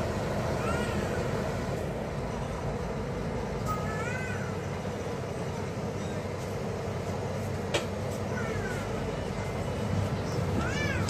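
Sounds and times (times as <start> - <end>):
ferry engine low rumble: 0.0 - 11.0.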